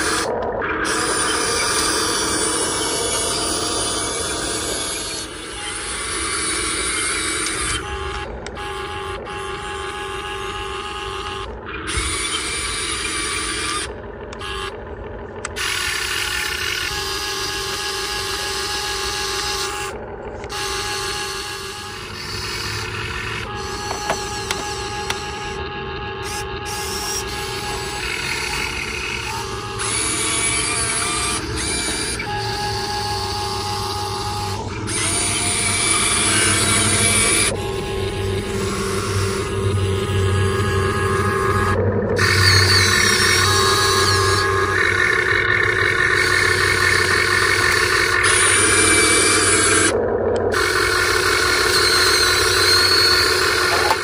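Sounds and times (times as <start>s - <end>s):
small electric motor whirring: 0.0s - 54.0s.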